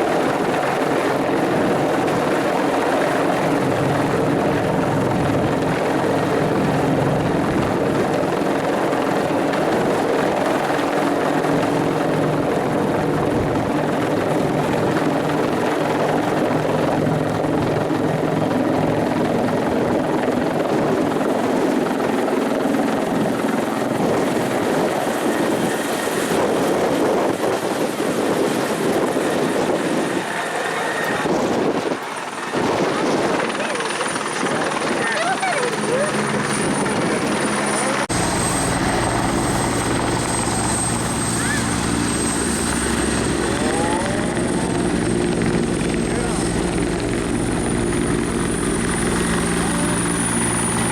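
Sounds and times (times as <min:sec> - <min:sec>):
helicopter drone: 0:00.0 - 0:50.9.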